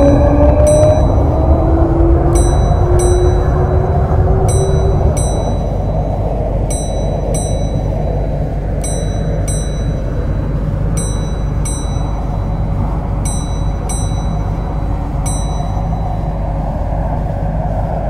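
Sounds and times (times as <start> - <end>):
electronic chime: 0.0 - 16.7
train rumbling: 0.0 - 18.0.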